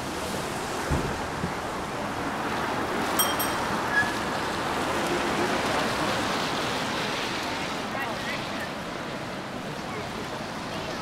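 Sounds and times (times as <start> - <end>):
city traffic noise: 0.0 - 11.0.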